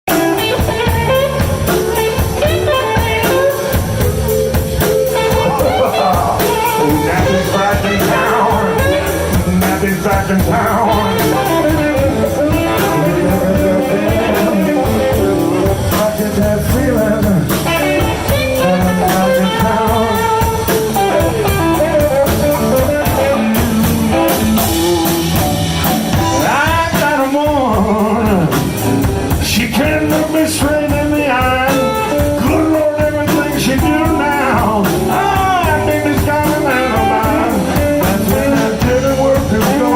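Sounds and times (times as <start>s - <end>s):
blues band playing live: 0.0s - 39.9s
guitar: 0.0s - 39.9s.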